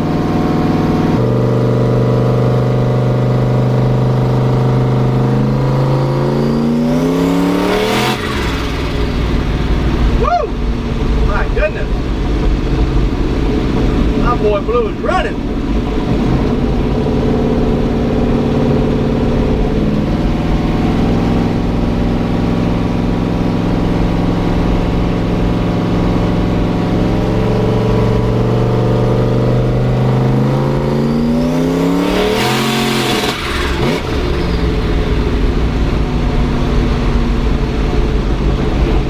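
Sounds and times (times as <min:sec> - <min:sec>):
engine revving: 0:00.0 - 0:39.0.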